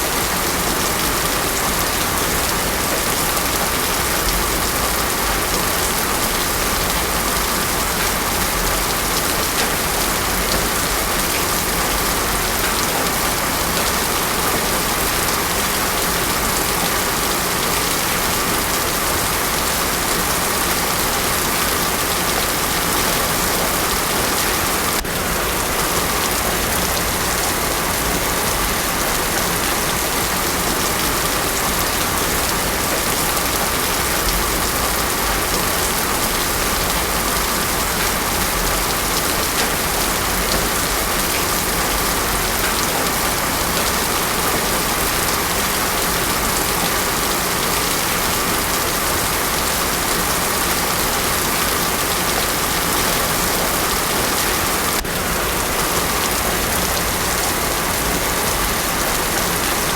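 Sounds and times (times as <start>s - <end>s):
heavy rain on road: 0.0s - 59.9s.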